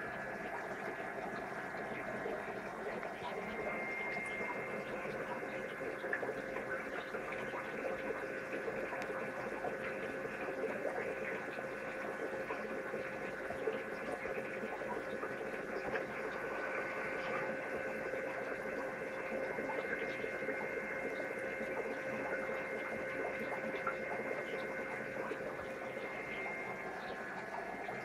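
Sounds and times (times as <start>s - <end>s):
aquarium filter hum: 0.0s - 28.0s
continuous bubbling: 0.0s - 28.0s.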